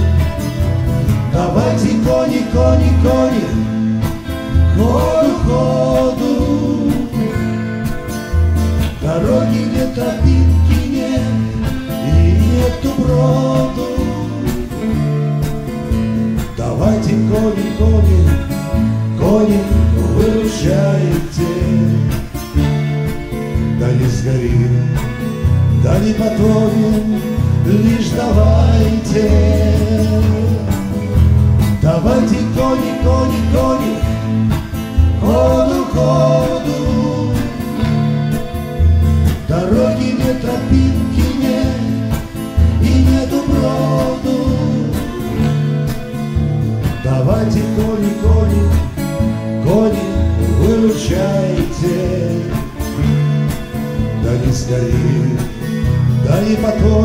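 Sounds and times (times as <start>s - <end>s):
strummed guitars: 0.0s - 57.0s
men singing a duet: 1.0s - 8.0s, 8.8s - 15.5s, 16.4s - 22.4s, 23.5s - 38.4s, 39.3s - 46.0s, 46.8s - 53.2s, 54.1s - 57.0s.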